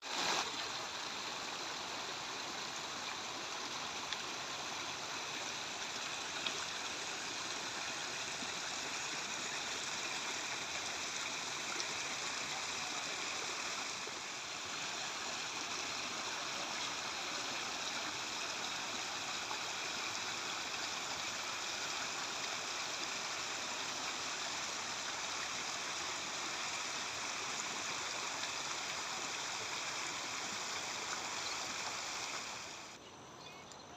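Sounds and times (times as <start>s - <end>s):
water rushing in a river: 0.0s - 33.0s.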